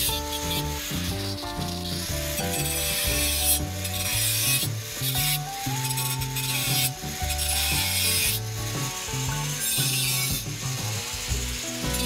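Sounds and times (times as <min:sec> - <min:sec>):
angle grinder cutting steel: 0:00.0 - 0:12.0
background music: 0:00.0 - 0:12.0.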